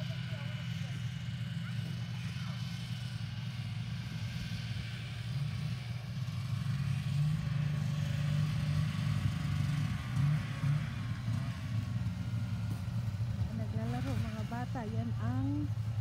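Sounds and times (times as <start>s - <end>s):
snowmobile engines droning: 0.0s - 16.0s.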